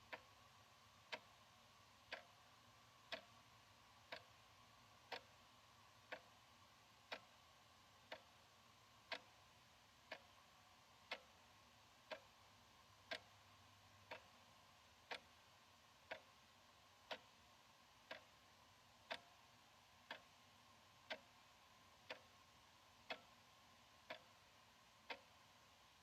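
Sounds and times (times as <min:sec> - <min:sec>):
wall clock ticking: 0:00.0 - 0:26.0.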